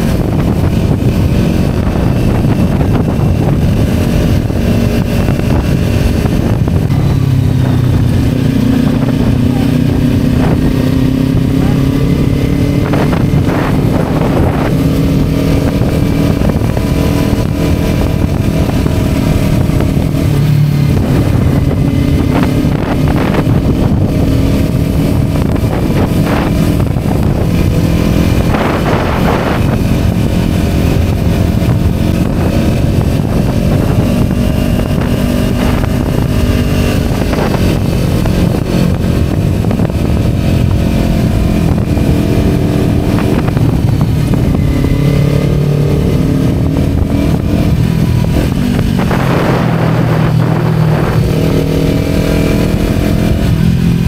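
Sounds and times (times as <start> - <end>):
motorcycle engine running: 0.0 - 54.0
wind rushing: 0.0 - 54.0.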